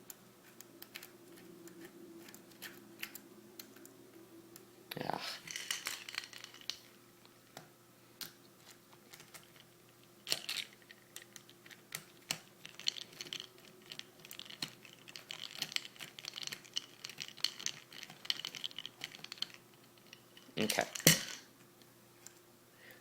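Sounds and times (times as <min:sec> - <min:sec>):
small parts clicking: 0:00.0 - 0:03.9, 0:05.4 - 0:22.4.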